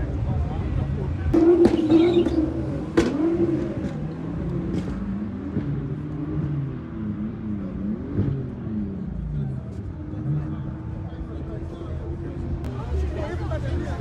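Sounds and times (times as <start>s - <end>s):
car engine revving: 1.2s - 14.0s.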